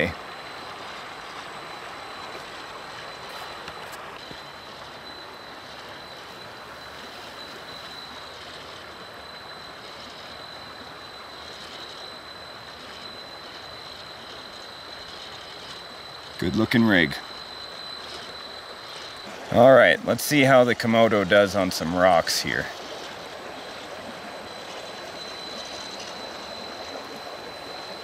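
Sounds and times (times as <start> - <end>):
rc truck motor whining: 0.0 - 20.6, 21.9 - 28.0
flowing water: 0.0 - 28.0.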